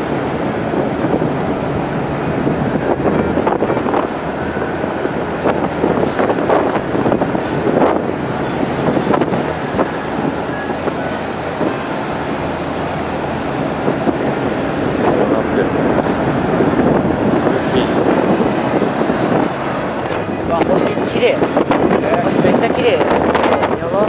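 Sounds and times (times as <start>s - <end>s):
rush of the sea: 0.0s - 24.0s
wind buffeting microphone: 0.0s - 24.0s.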